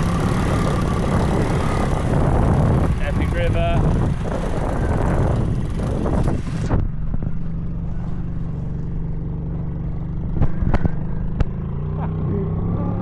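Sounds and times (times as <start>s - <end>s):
low-pitched engine running: 0.0s - 13.0s.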